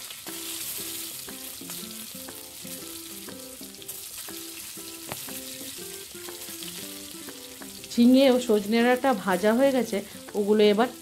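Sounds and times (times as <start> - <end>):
soft background music: 0.0 - 11.0
vegetables sizzling in oil: 0.0 - 11.0.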